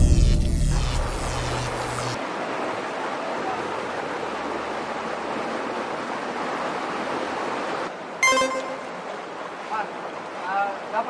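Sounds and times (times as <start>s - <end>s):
stream rushing over rocks: 1.7s - 11.0s.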